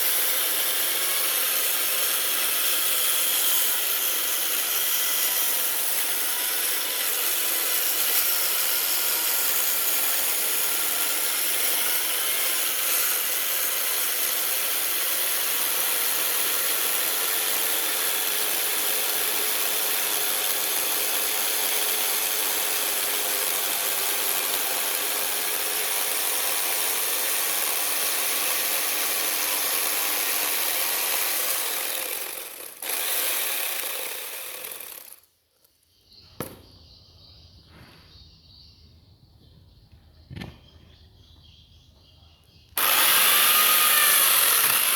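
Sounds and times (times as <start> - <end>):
chainsaw cutting wood: 0.0 - 35.3, 42.8 - 44.9.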